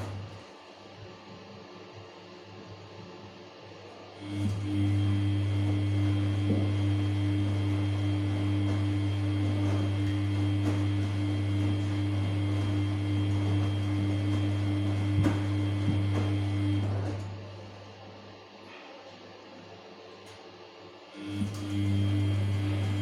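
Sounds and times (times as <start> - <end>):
washing machine drain pump hum: 0.0 - 1.5, 3.9 - 18.6, 19.7 - 23.0.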